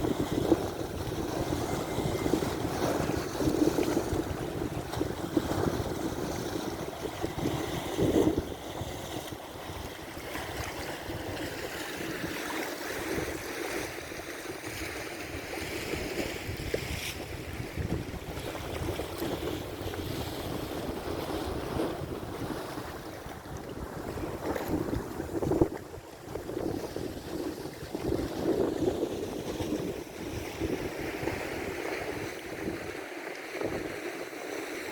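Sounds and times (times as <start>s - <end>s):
wind buffeting microphone: 0.0s - 12.4s, 13.0s - 33.0s
lake waves splashing: 0.0s - 34.9s.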